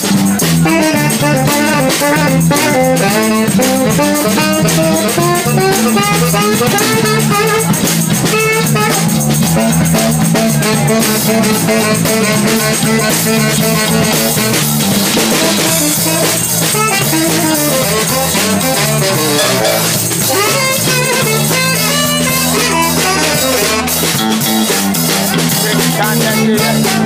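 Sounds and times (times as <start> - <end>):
congas: 0.0 - 27.0
drum kit: 0.0 - 27.0
electric bass line: 0.0 - 27.0
saxophone melody: 0.0 - 27.0.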